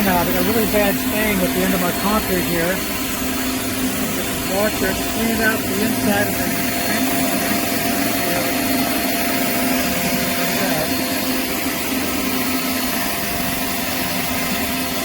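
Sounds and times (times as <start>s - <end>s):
motor hum: 0.0s - 15.0s
pressure washer jet hissing: 0.0s - 15.0s.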